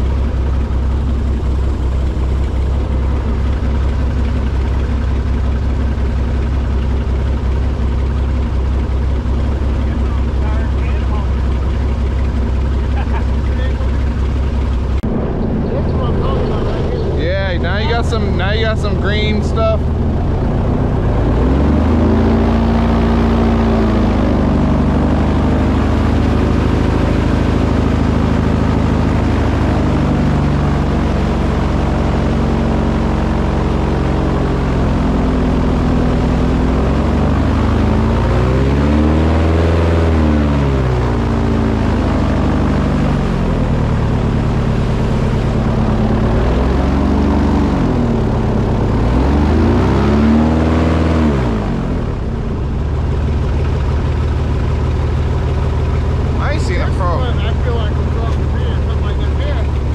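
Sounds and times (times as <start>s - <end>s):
engine running and revving: 0.0s - 59.9s.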